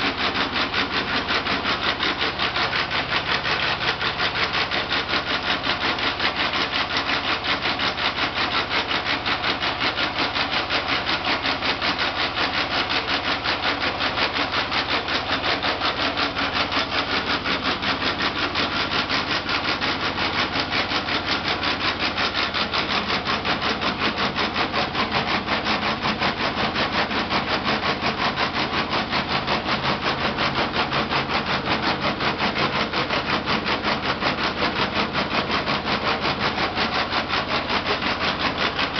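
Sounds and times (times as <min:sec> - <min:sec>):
rhythmic machinery clatter: 0:00.0 - 0:38.9.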